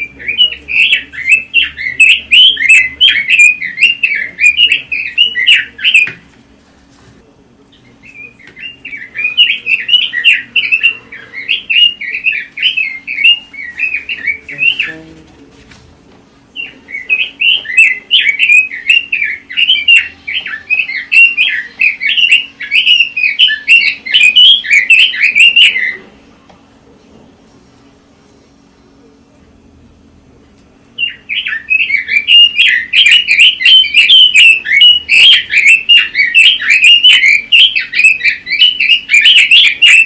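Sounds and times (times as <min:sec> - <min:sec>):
bird warbling song: 0:00.0 - 0:06.3, 0:07.7 - 0:15.2, 0:16.5 - 0:26.2, 0:30.9 - 0:40.0.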